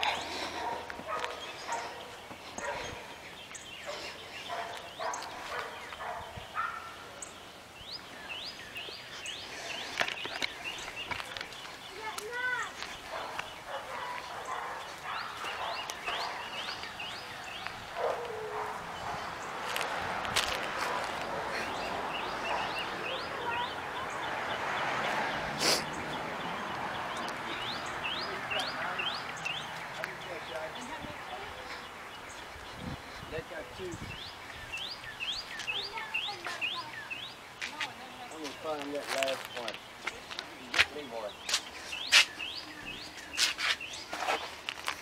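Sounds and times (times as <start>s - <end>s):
bird chirping: 0.0s - 19.9s, 20.6s - 44.7s.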